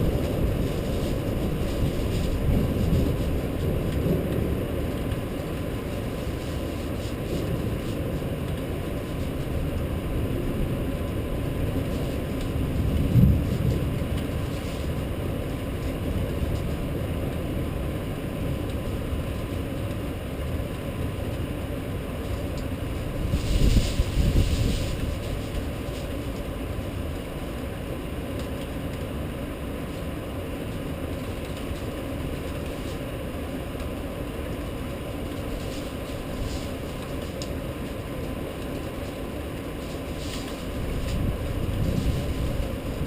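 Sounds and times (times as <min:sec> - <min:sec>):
rain storm: 0:00.0 - 0:43.0.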